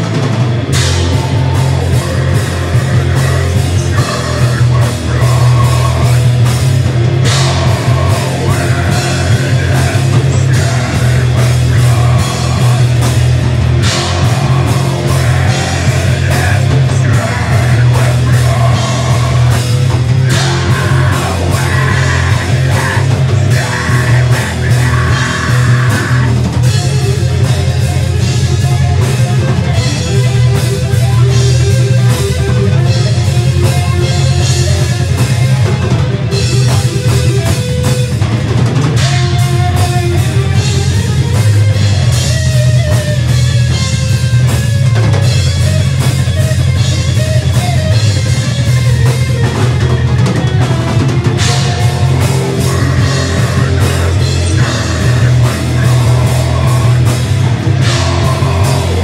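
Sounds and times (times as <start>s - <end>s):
heavy metal band playing: 0.0s - 59.0s
vocalist singing: 0.7s - 37.5s, 47.4s - 59.0s.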